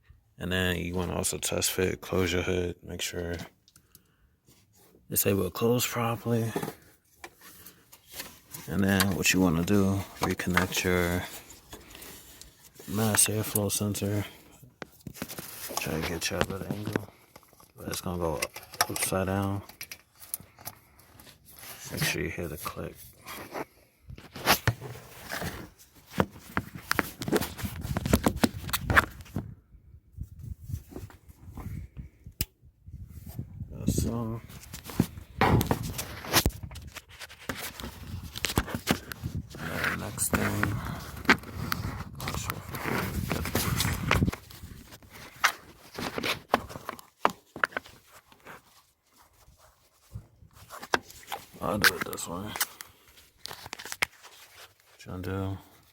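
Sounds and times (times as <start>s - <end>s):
rustling of parts: 3.2s - 29.5s, 33.2s - 55.9s.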